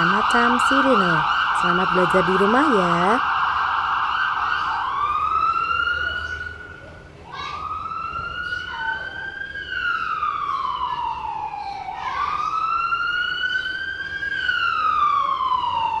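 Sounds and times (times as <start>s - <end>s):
siren wailing: 0.0s - 6.7s, 7.6s - 16.0s.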